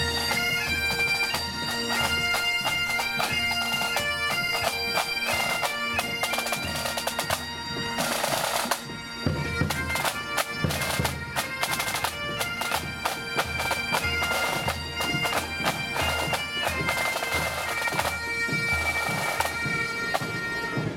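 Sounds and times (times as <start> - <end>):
bagpipes playing a march: 0.0 - 20.9.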